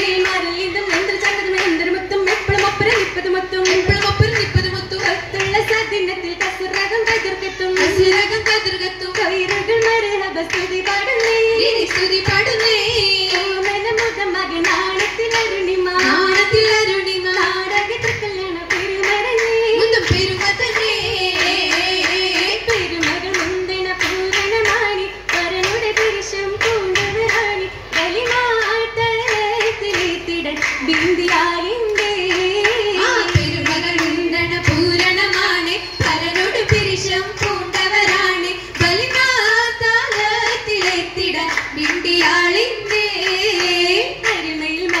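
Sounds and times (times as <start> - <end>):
group handclapping: 0.0 - 45.0.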